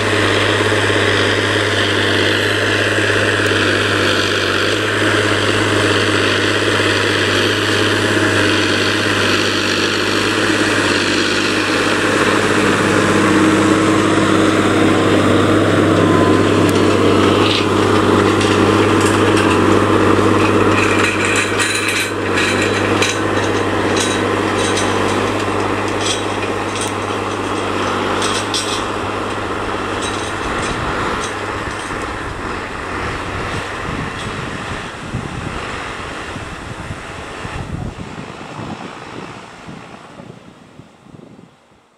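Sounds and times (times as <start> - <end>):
implement ticking and knocking: 0.0 - 34.4
tractor diesel engine under load: 0.0 - 41.6.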